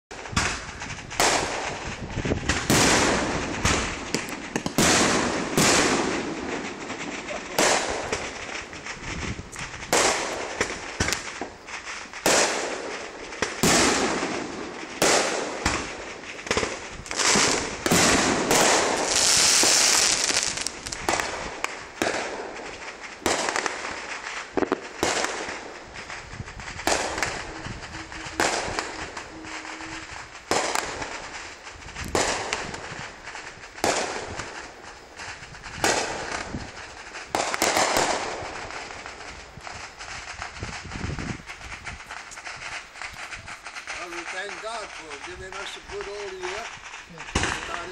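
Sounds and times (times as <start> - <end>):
fireworks banging: 0.1 - 47.9
fireworks crackling hiss: 0.1 - 47.9.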